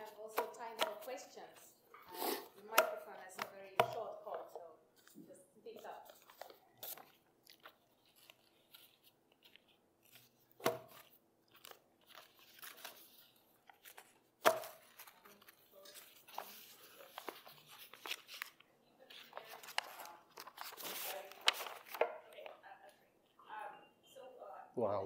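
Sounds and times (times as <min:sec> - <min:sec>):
paper rustling: 0:02.2 - 0:22.6.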